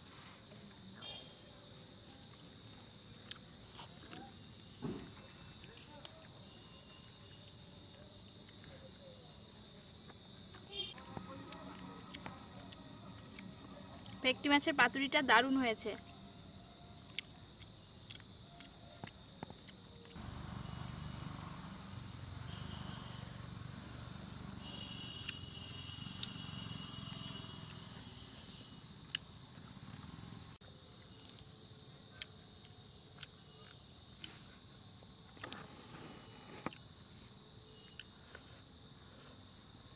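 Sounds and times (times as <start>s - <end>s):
night insects trilling: 0.4s - 39.9s.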